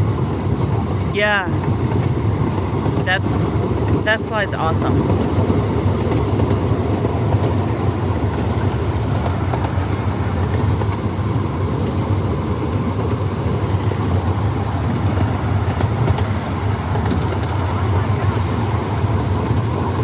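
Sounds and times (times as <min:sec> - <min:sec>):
miniature train rumbling on track: 0:00.0 - 0:20.0.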